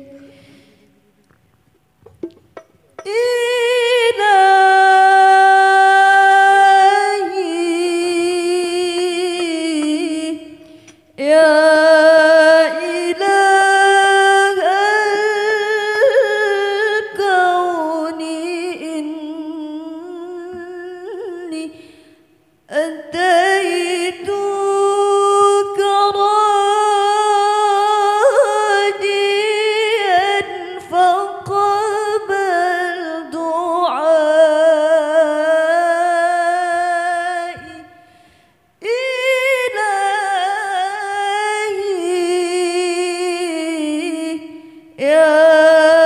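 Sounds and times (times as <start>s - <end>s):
woman singing unaccompanied: 2.2s - 21.8s, 22.7s - 38.0s, 38.8s - 46.0s.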